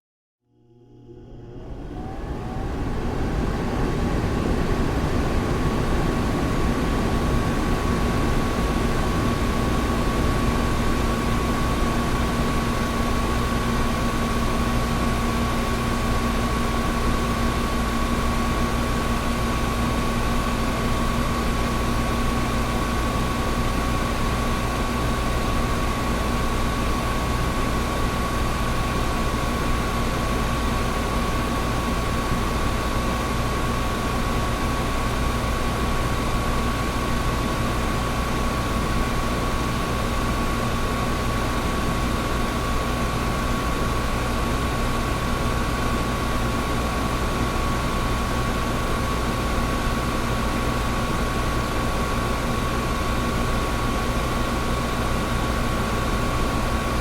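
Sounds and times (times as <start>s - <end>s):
air conditioner running: 0.5s - 57.0s.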